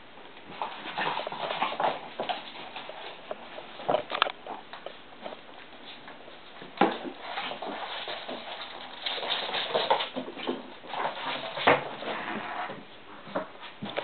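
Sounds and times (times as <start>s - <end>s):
dog paws scrabbling and pattering: 0.4s - 12.2s, 12.8s - 14.0s
dogs scuffling: 0.4s - 14.0s.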